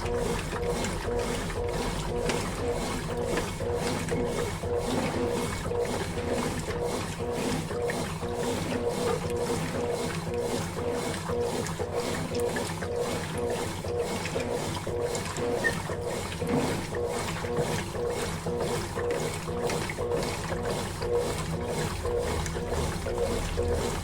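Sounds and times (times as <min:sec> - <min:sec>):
washing machine agitating laundry: 0:00.0 - 0:24.0.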